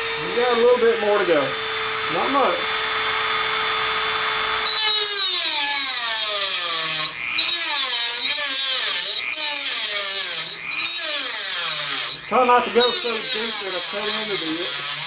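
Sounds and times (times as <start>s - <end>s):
rotary tool cutting metal: 0.0s - 15.0s.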